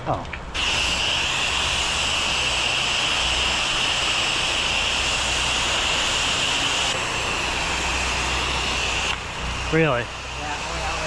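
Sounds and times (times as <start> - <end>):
machine humming: 0.6 - 11.0
pressure washer water spray: 0.6 - 11.0.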